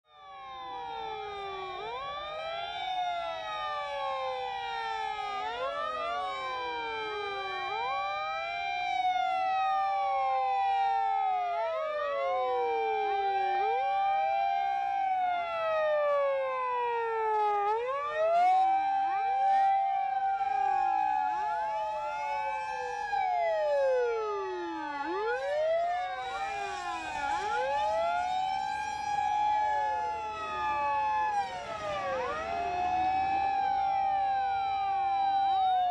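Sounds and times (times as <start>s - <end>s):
overlapping wailing sirens: 0.1s - 35.9s.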